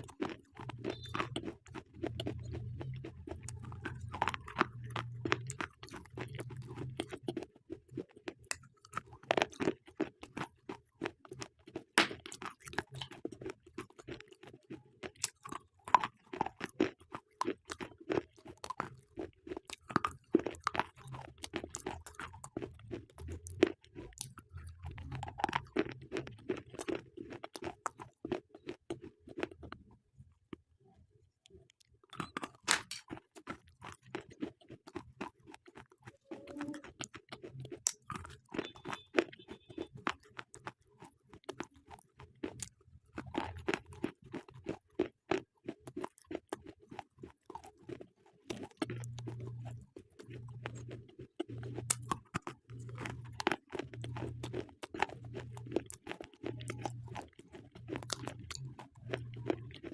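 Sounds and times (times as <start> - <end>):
person chewing slate pencils: 0.0 - 30.7, 31.4 - 59.9.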